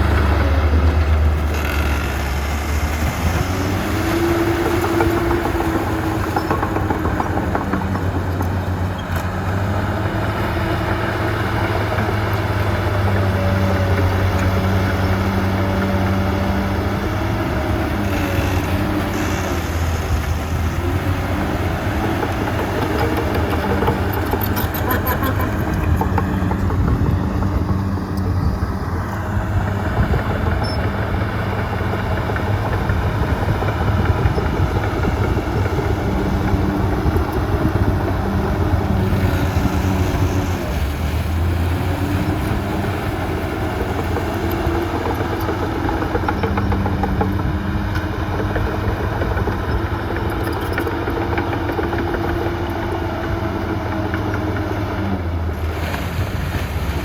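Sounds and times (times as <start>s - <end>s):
heavy diesel engines working: 0.0s - 57.0s.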